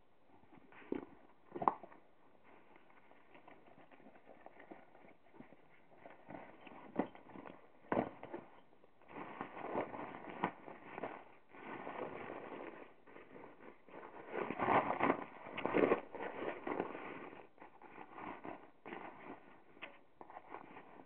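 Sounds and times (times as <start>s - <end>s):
canvas bag rustling: 2.6s - 19.6s.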